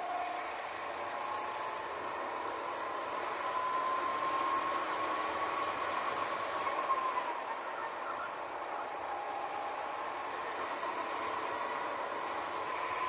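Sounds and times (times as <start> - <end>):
go-kart engine whine: 0.0 - 13.0.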